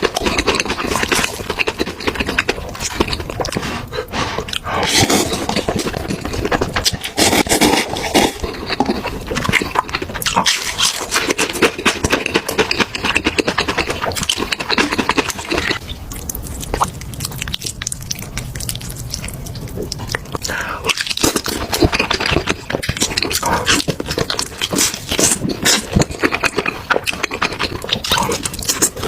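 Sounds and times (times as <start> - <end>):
chewing and slurping food: 0.0 - 29.0
wet mouth clicks: 0.1 - 29.0.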